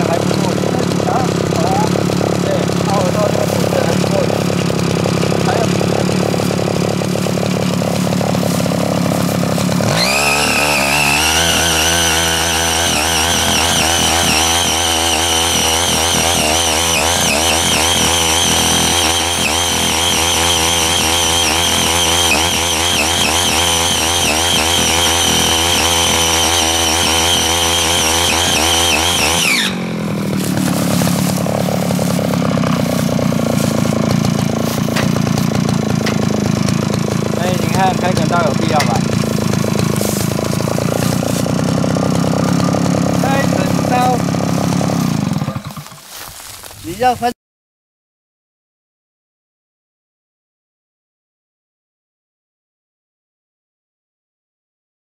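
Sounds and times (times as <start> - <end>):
tiller engine idling and revving: 0.0 - 47.3
tilling blades digging soil: 0.0 - 47.3.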